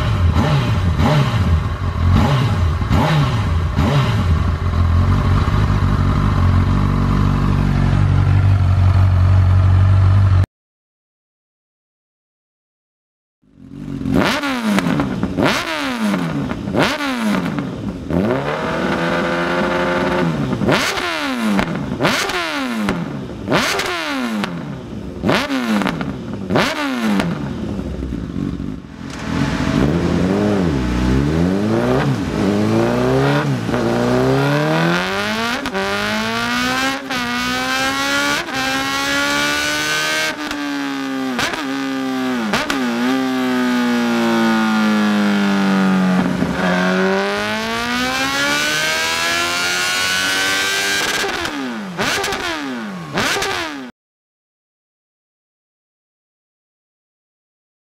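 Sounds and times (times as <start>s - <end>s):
motorcycle engine revving: 0.0s - 10.5s, 13.4s - 53.9s.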